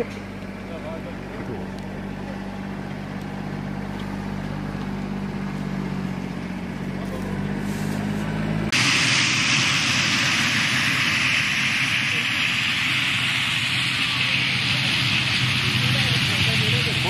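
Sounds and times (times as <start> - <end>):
turboprop engine drone: 0.0 - 17.0
roar of plane on runway: 0.3 - 17.0.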